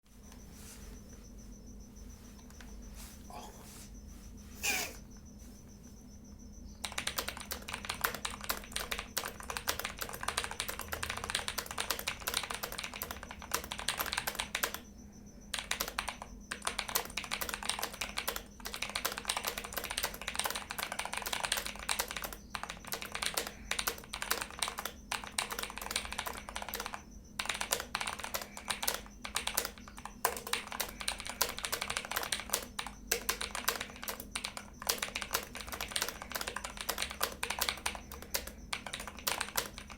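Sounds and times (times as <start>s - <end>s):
mechanical keyboard typing: 6.8s - 14.9s, 15.5s - 39.9s.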